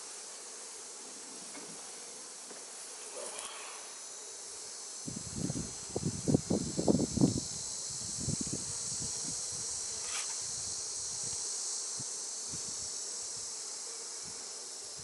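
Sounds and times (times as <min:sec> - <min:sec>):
crickets chirring: 0:00.0 - 0:15.0
honey bees humming: 0:00.0 - 0:15.0.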